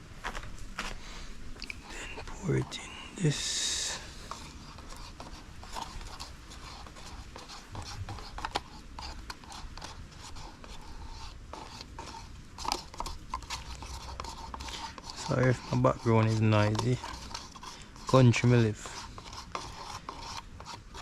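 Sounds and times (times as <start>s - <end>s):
low steady background hum: 0.0s - 21.0s
stick stirring resin in plastic container: 1.7s - 21.0s.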